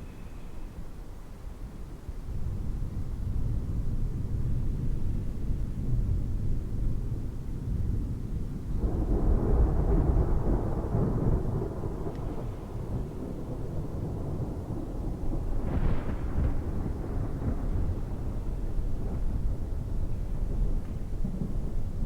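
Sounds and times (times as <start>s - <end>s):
thunder rumbling: 2.4s - 22.0s.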